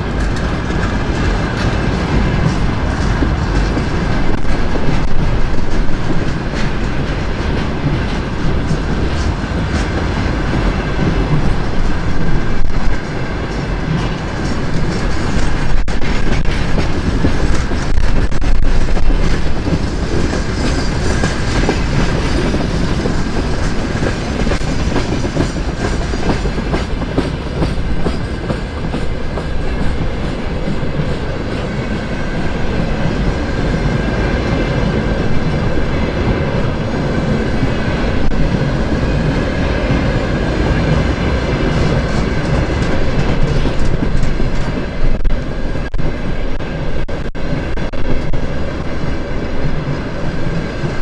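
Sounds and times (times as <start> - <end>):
train wheels clattering over rails: 0.0 - 51.0.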